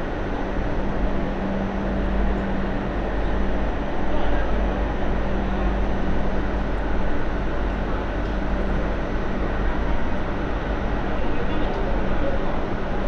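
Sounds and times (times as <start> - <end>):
hum and rumble inside train car: 0.0 - 13.0.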